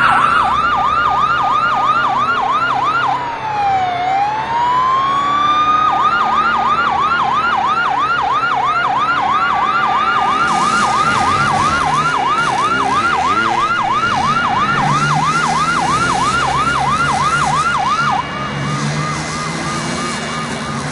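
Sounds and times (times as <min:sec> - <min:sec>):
siren wail: 0:00.0 - 0:20.9
siren yelping: 0:00.0 - 0:20.9.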